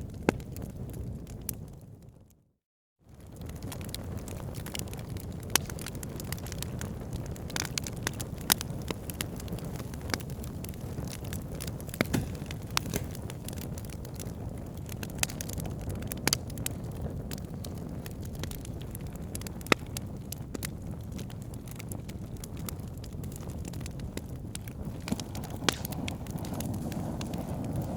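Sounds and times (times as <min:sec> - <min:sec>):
wood fire crackling: 0:03.1 - 0:27.9.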